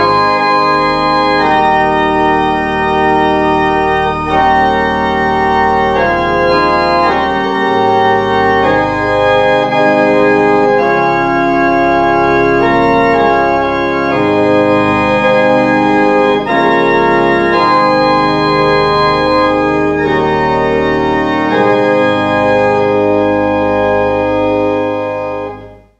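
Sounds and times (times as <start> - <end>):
organ chords: 0.0 - 25.9.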